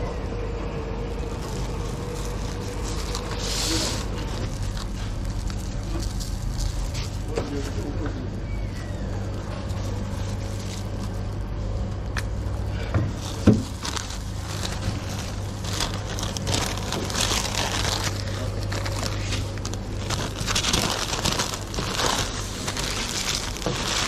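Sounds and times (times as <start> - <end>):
low hum: 0.0 - 24.0
paper and plastic gloves crinkling: 0.8 - 24.0.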